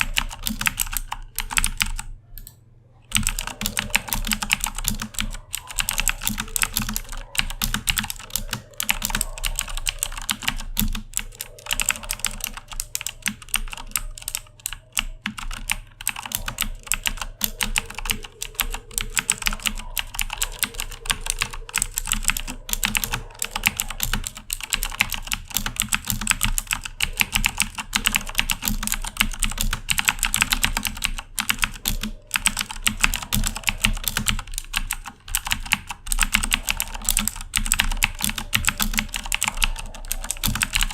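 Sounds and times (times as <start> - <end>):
clicky mechanical keyboard typing: 0.0 - 40.9.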